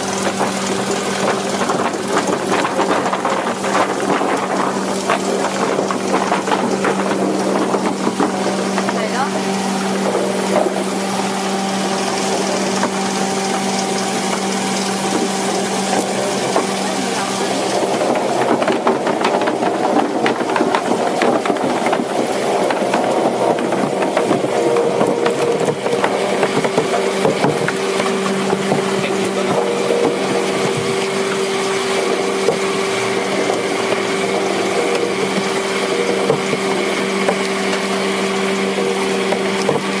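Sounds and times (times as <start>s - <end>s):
rotating brush rollers rushing: 0.0s - 40.0s
washing machine motor hum: 0.0s - 40.0s
water chestnuts clattering into crate: 0.0s - 40.0s.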